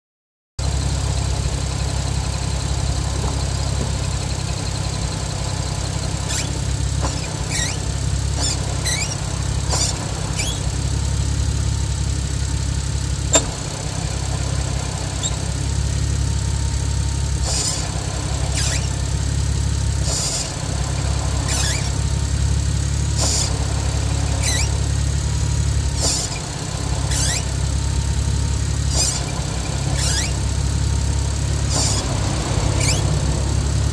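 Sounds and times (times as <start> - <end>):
car engine idling: 0.6 - 33.9
clutch squealing: 0.6 - 33.9.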